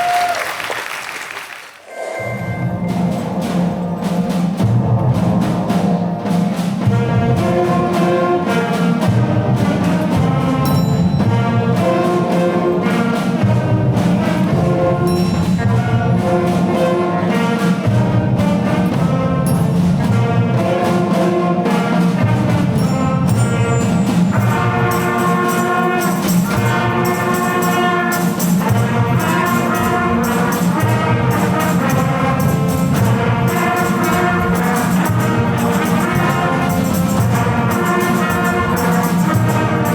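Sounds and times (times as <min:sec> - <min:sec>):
brass ensemble playing: 0:02.6 - 0:39.9.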